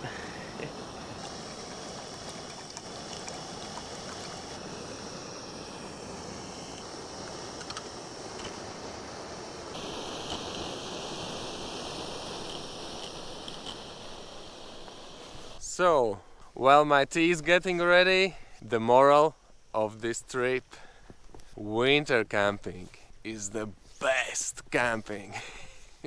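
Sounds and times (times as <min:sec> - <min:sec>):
gas stove rushing hiss: 0:00.0 - 0:19.6, 0:20.2 - 0:26.0.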